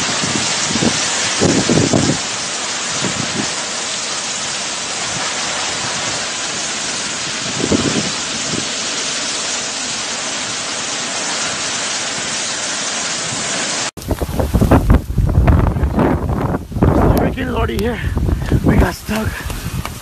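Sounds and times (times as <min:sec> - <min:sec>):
heavy rain hiss: 0:00.0 - 0:20.0
low wind rumbles: 0:00.0 - 0:20.0.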